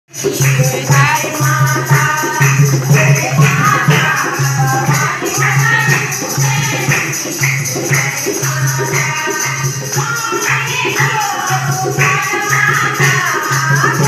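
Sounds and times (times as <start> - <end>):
hand drum: 0.1 - 14.0
jingling percussion: 0.1 - 14.0
women singing devotional song: 0.1 - 14.0.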